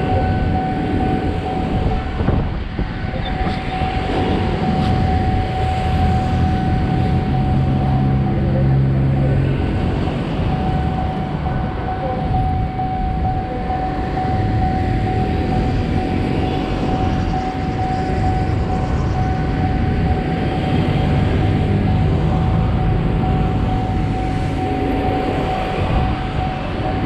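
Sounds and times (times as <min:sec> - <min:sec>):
road traffic rumbling: 0:00.0 - 0:27.0
steady high-pitched tone: 0:00.0 - 0:27.0.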